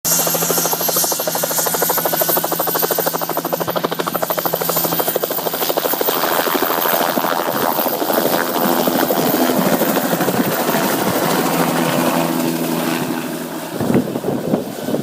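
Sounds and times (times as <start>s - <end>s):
helicopter rotor chopping: 0.1s - 15.0s.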